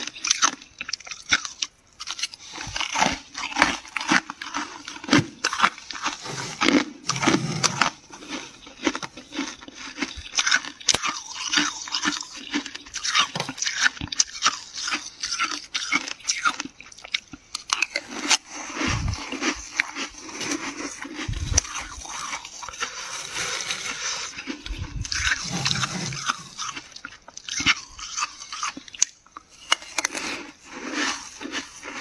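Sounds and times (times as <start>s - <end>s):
chewing freezer frost: 0.0s - 32.0s.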